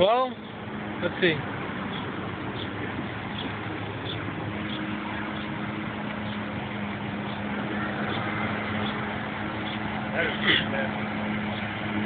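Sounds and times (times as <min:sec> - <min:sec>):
outdoor noise: 0:00.0 - 0:12.0.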